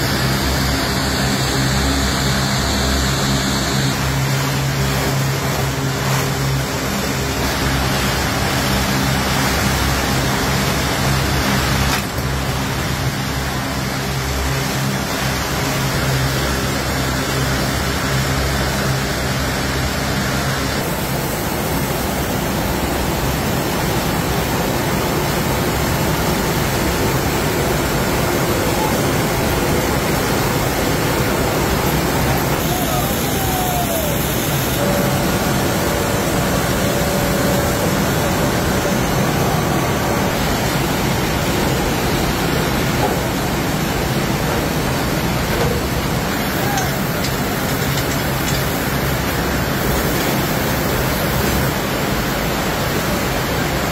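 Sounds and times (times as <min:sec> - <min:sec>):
low hum: 0:00.0 - 0:51.2
spinning machinery din: 0:00.0 - 0:53.8.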